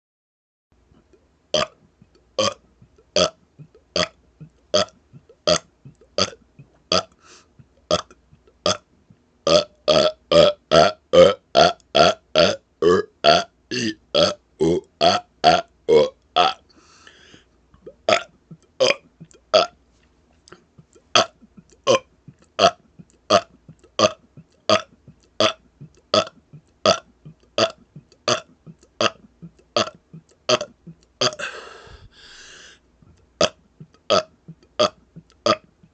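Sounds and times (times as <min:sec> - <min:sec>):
man burping: 0:02.4 - 0:08.8, 0:09.4 - 0:19.8, 0:20.5 - 0:35.9.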